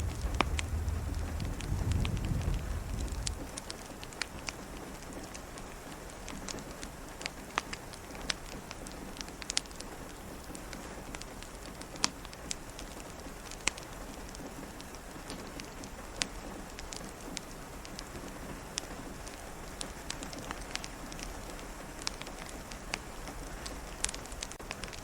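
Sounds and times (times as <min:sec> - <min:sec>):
rain hiss: 0:00.0 - 0:25.0
wood fire popping and crackling: 0:00.0 - 0:25.0.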